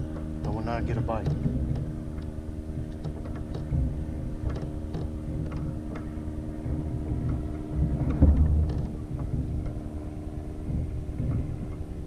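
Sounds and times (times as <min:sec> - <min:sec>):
low rumble: 0:00.0 - 0:12.0
steady motor hum: 0:00.0 - 0:12.0.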